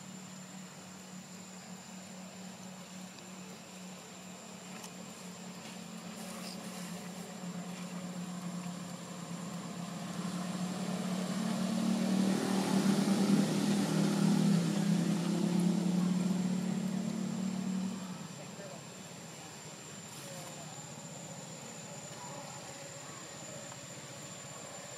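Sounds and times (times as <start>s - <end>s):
vehicle engine humming: 0.0s - 24.9s.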